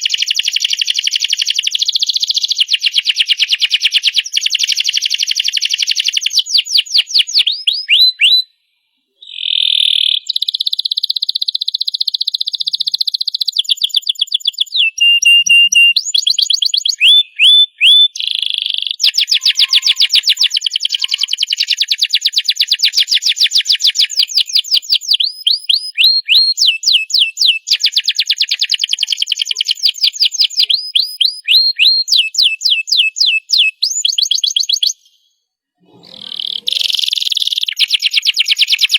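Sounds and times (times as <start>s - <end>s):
canary singing trills: 0.0s - 8.6s, 9.2s - 35.3s, 35.9s - 38.9s.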